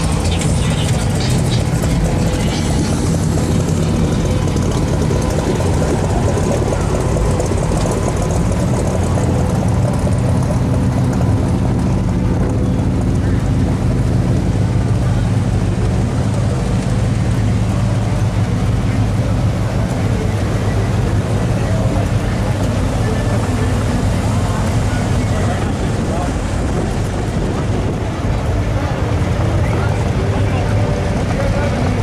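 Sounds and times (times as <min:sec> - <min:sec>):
car engines humming: 0:00.0 - 0:32.0.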